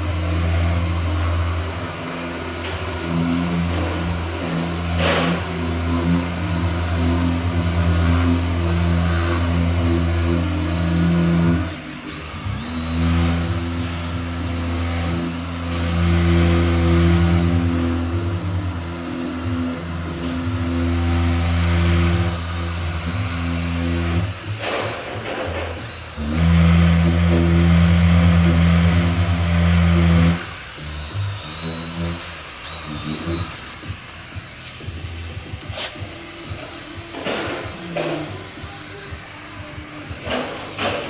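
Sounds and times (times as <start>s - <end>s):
power sander running: 0.0s - 41.0s.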